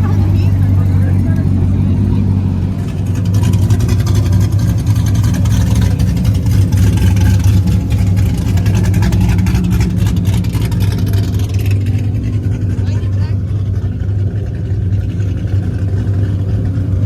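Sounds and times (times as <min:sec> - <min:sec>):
car engine exhaust drone: 0:00.0 - 0:17.0.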